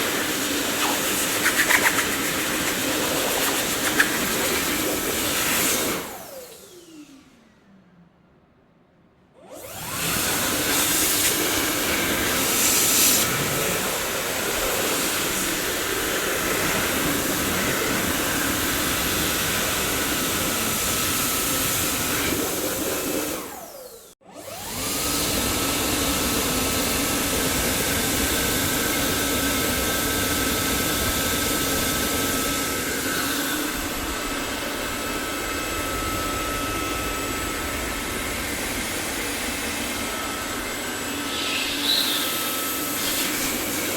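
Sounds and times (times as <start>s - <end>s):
vacuum cleaner motor whining: 0.0s - 7.6s, 9.4s - 43.9s.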